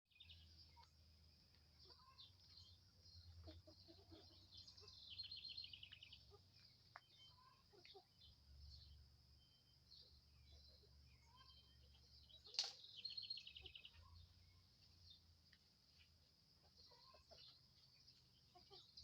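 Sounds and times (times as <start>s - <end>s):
faint bird chirping: 0.1s - 19.0s.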